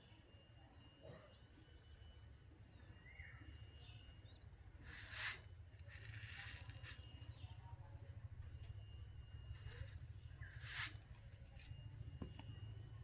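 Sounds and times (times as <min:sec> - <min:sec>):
faint high bird chirps: 0:00.0 - 0:13.0
steady low hum: 0:00.0 - 0:13.0.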